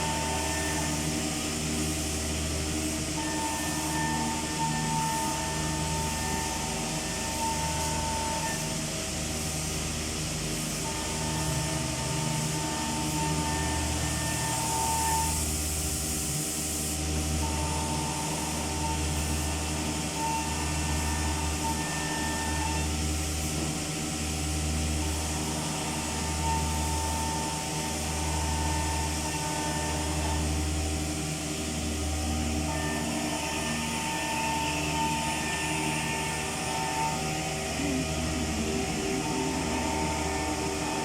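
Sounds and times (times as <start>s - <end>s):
higher machine tone: 0.0s - 15.8s, 17.1s - 41.0s
machine whine with low hum: 0.0s - 41.0s.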